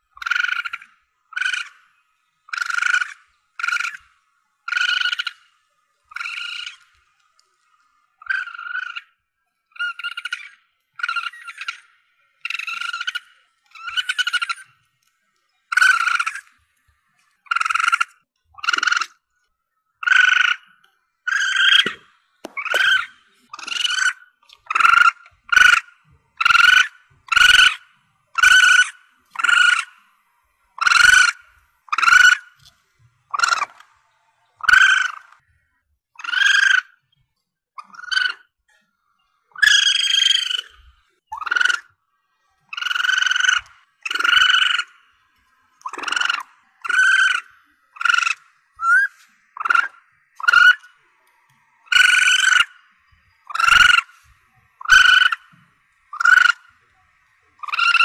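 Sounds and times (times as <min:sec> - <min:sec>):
civet high-pitched cries: 0:00.2 - 0:07.0, 0:08.2 - 0:14.8, 0:15.7 - 0:16.6, 0:17.4 - 0:19.2, 0:20.0 - 0:30.0, 0:30.8 - 0:32.7, 0:33.3 - 0:33.8, 0:34.6 - 0:35.4, 0:36.2 - 0:37.0, 0:37.8 - 0:38.6, 0:39.5 - 0:42.0, 0:42.7 - 0:58.0.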